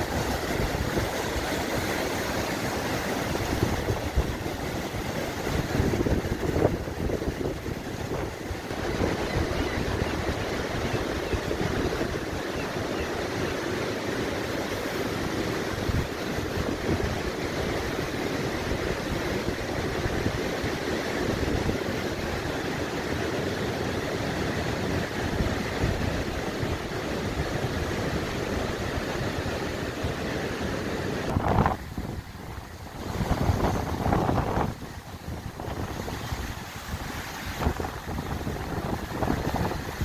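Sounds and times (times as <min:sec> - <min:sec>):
wind buffeting microphone: 0:00.0 - 0:13.6, 0:14.8 - 0:23.6, 0:24.2 - 0:40.0
sea surf: 0:00.0 - 0:40.0.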